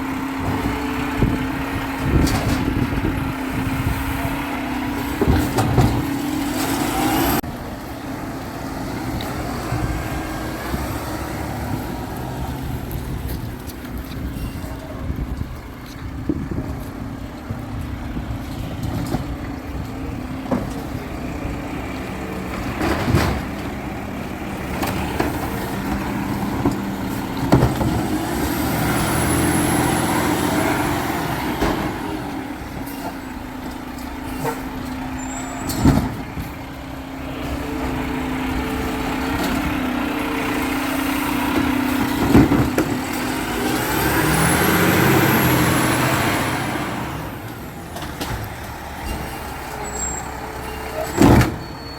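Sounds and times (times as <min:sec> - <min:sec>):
garbage truck engine running: 0:00.0 - 0:51.9.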